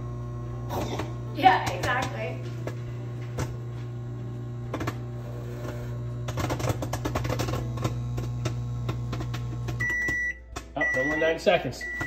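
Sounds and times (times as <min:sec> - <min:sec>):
microwave hum: 0:00.0 - 0:12.0.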